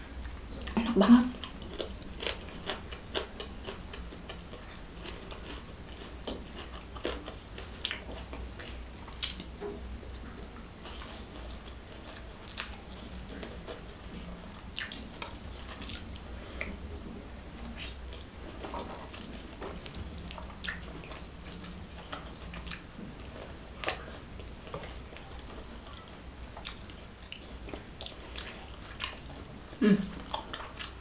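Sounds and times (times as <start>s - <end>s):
steady low hum: 0.0s - 31.0s
person chewing: 0.5s - 16.8s, 17.6s - 31.0s.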